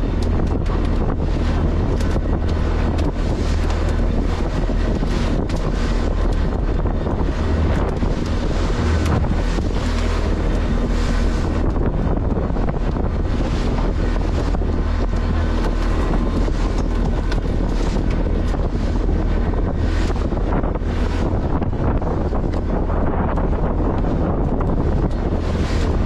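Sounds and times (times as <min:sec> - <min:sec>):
boat engine drone: 0:00.0 - 0:26.0
wind buffeting microphone: 0:00.0 - 0:26.0.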